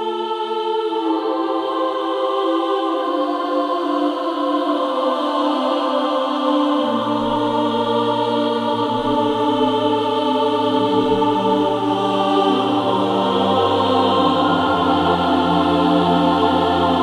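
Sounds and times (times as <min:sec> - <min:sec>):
female choir singing sustained chords: 0:00.0 - 0:17.0.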